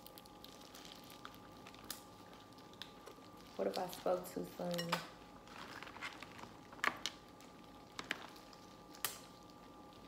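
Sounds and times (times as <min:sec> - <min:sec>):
crab shell cracking: 0:00.0 - 0:04.0, 0:04.9 - 0:10.0.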